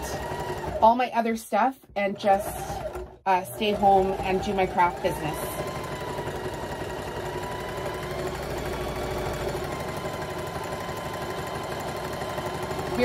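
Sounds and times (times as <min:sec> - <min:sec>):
sewing machine motor whine: 0:00.0 - 0:01.1, 0:02.0 - 0:13.0
sewing machine needle rhythm: 0:00.0 - 0:13.0.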